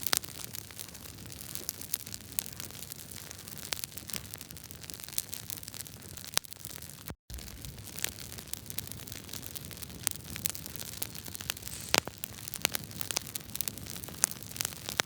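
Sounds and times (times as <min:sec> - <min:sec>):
wood fire crackling: 0:00.2 - 0:15.0.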